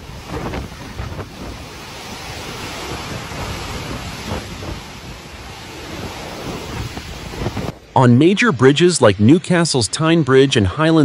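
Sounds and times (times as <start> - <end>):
gale wind buffeting microphone: 0.0 - 9.6
waves breaking against seawall: 0.0 - 11.0.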